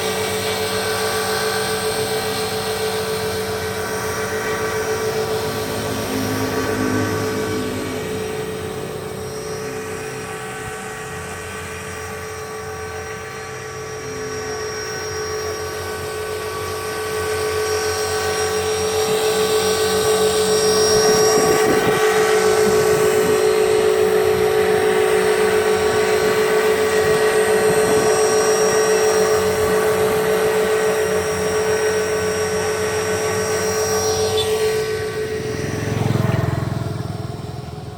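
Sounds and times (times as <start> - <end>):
rc helicopter motor whine: 0.0 - 37.9.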